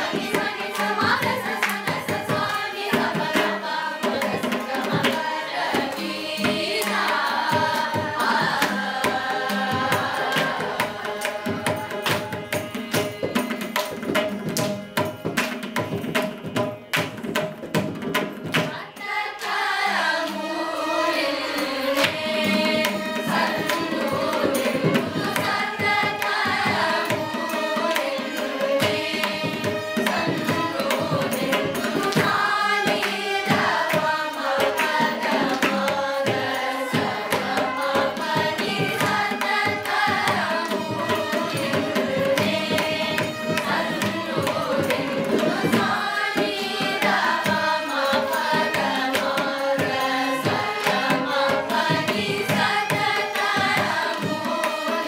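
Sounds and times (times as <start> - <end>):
group singing in unison: 0.0 - 14.8, 18.2 - 55.0
violins: 0.0 - 55.0.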